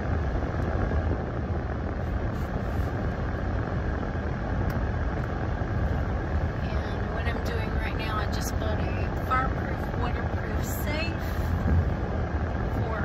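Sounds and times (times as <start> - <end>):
road and wind rumble in car: 0.0 - 13.0.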